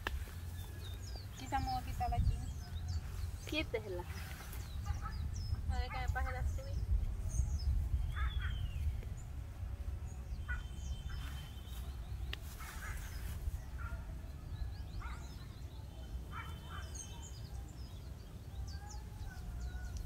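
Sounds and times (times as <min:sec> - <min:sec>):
steady low rumble: 0:00.0 - 0:16.4
birds chirping and whistling: 0:00.1 - 0:20.0.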